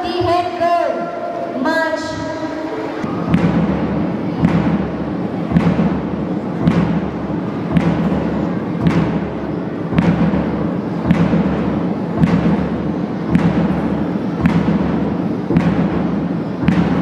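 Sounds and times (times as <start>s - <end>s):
drum beating slow march: 3.2s - 17.0s.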